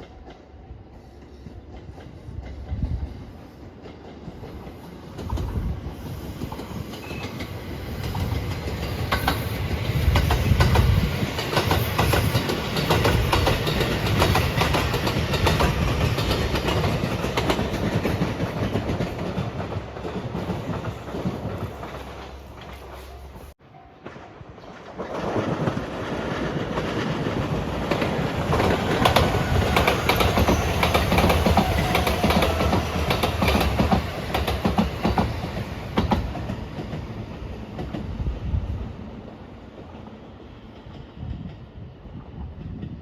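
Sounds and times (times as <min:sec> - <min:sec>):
train wheels clicking over rail joints: 0:00.0 - 0:38.4.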